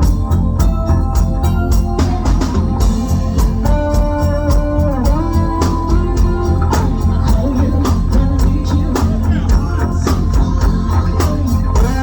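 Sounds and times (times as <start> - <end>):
bass: 0.0 - 12.0
drum beat: 0.0 - 12.0
electronic keyboard sustained notes: 0.0 - 12.0.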